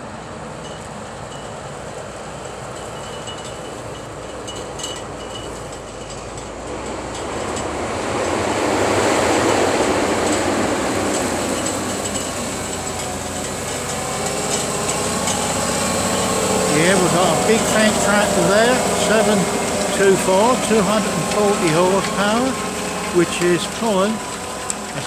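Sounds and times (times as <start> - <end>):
tractor running under load: 0.0 - 25.0.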